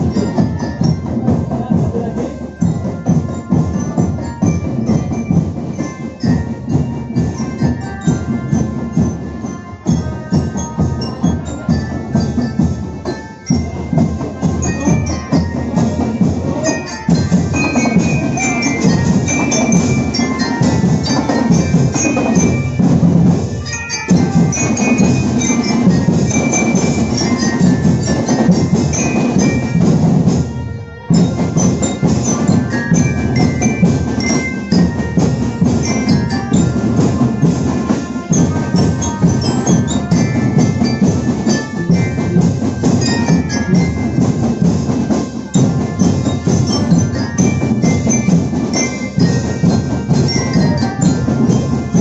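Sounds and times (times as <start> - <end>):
mallet-struck metal notes: 0.0 - 52.0
steady drum beat: 0.0 - 52.0.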